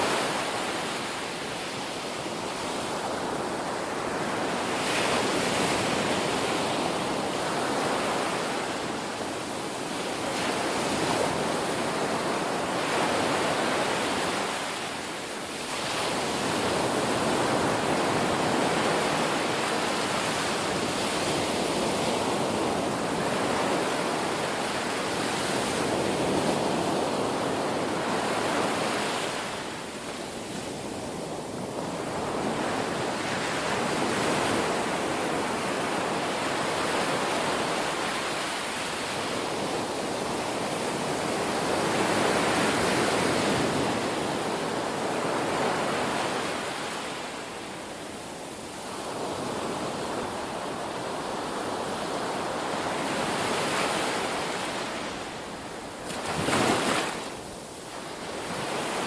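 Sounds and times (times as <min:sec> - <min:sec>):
ocean surf washing onto shore: 0:00.0 - 0:59.0.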